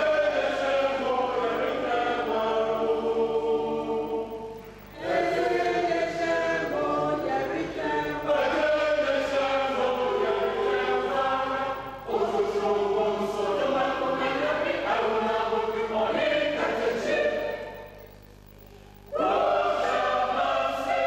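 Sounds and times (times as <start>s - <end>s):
choir singing a hymn: 0.0s - 18.0s, 19.1s - 21.0s.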